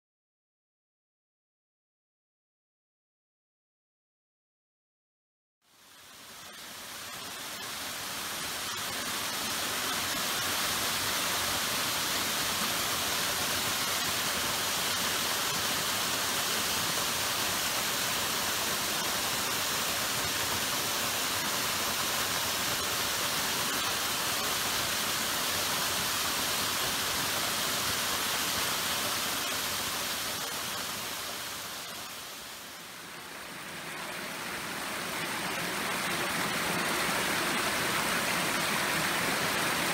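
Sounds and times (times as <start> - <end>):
water rushing down rocks: 6.2 - 39.9.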